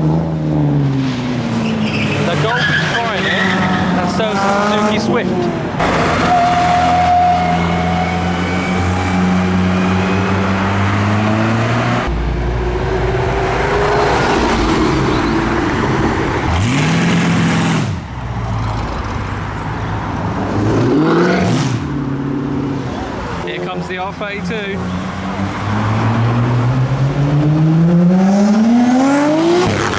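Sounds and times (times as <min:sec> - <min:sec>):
car engines accelerating: 0:00.0 - 0:29.9.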